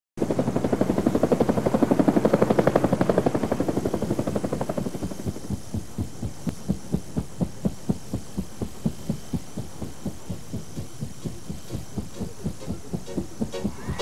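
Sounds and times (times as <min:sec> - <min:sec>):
helicopter rotor chop: 0:00.2 - 0:14.0.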